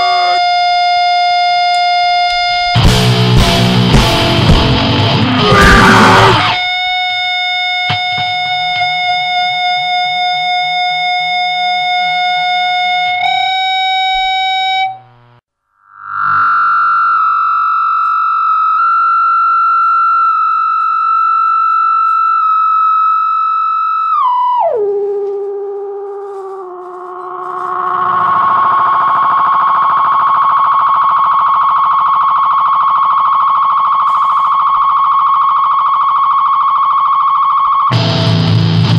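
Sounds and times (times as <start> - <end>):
electric guitar feedback: 0.0 - 38.9.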